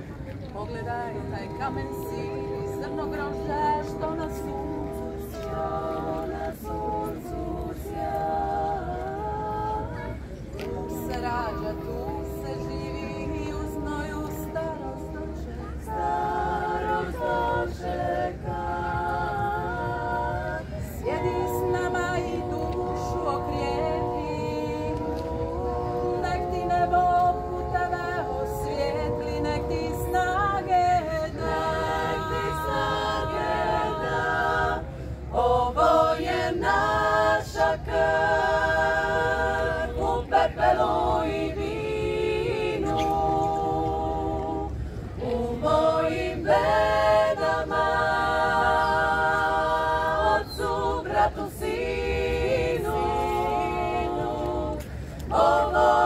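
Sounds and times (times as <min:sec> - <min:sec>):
women singing a cappella: 0:00.0 - 0:56.0.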